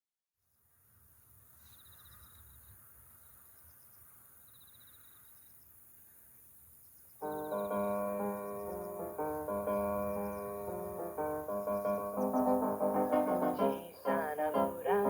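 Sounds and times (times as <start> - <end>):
insects chirping trills: 0.9 - 15.0.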